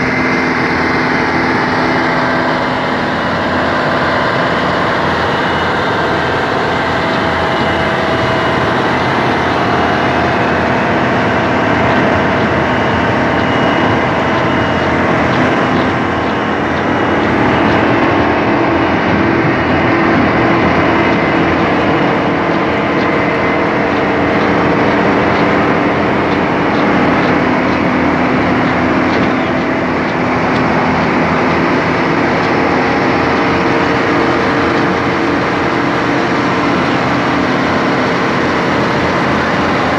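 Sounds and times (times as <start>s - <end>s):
drilling machine engine drone: 0.0s - 39.9s.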